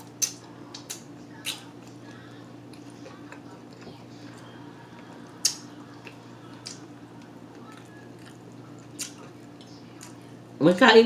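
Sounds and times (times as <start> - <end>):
wet mouth eating noises: 0.0 - 10.2
steady low hum: 0.0 - 11.0.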